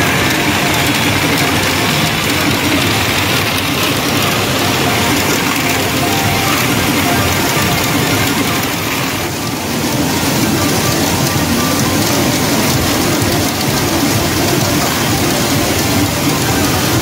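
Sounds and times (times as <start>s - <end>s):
pachinko balls clattering: 0.0s - 17.0s.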